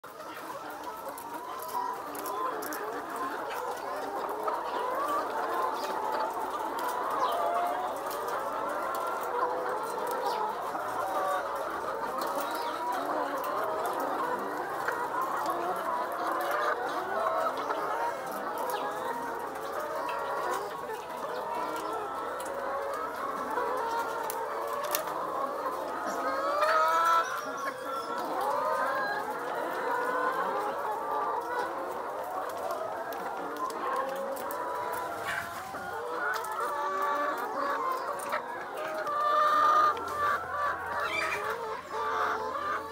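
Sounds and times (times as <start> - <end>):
hens clucking in chorus: 0.0 - 42.9.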